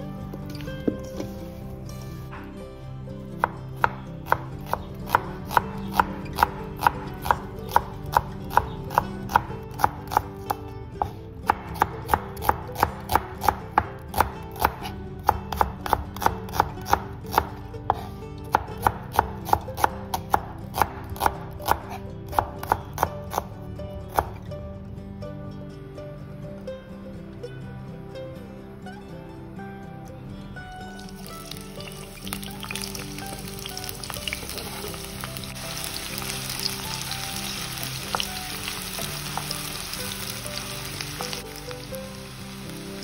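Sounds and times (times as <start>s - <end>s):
quiet background music: 0.0s - 43.0s.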